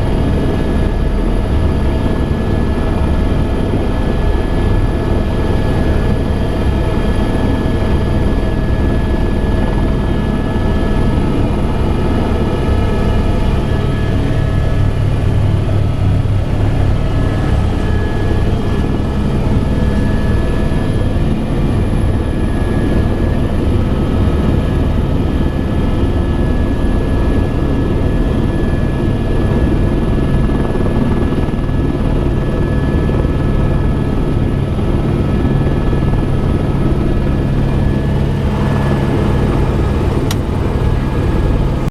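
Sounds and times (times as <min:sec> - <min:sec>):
helicopter running: 0:00.0 - 0:41.9.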